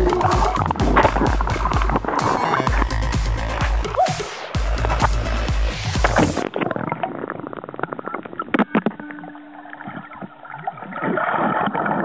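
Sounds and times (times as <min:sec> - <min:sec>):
water sloshing and bubbling: 0:00.0 - 0:12.0.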